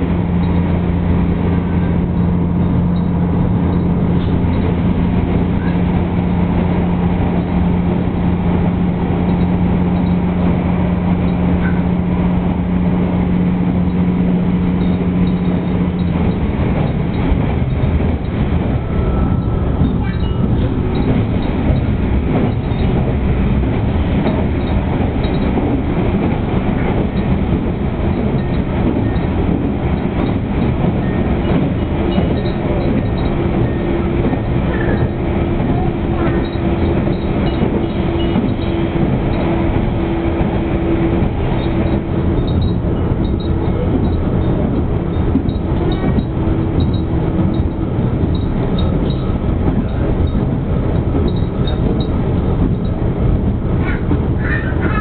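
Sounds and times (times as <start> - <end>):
train wheels rumbling in tunnel: 0.0 - 55.0.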